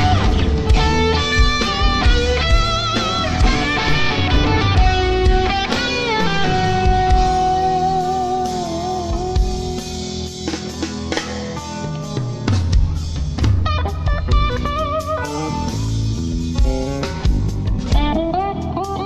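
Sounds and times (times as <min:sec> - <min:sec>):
bass guitar: 0:00.0 - 0:19.0
drums: 0:00.0 - 0:19.0
electric guitar with vibrato: 0:00.0 - 0:19.0.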